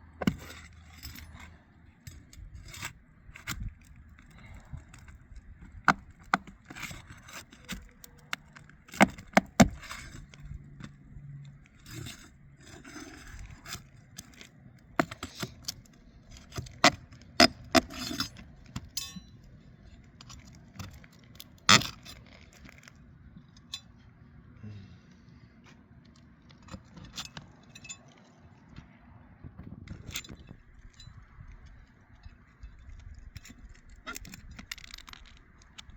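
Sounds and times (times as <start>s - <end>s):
tool scraping under shingles: 0.0s - 23.7s, 29.8s - 35.9s.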